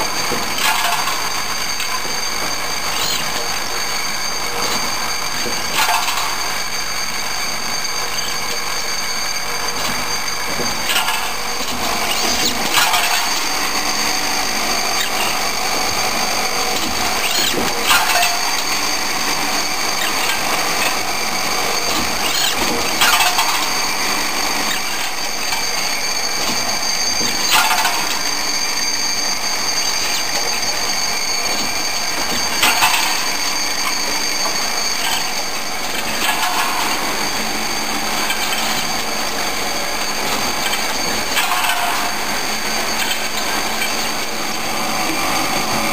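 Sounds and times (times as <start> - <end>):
machine running with whine: 0.0 - 45.9.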